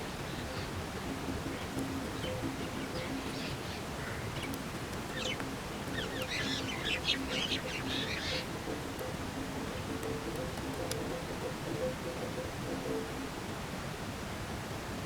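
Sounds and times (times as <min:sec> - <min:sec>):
bird chirping: 0:00.0 - 0:13.2
background hiss: 0:00.0 - 0:15.0.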